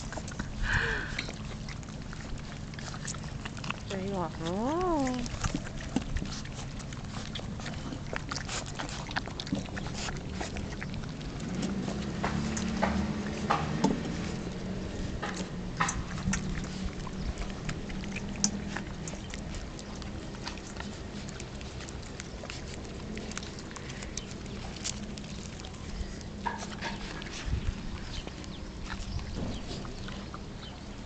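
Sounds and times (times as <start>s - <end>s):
dogs licking and lapping: 0.0s - 31.0s
low steady hum: 0.0s - 31.0s.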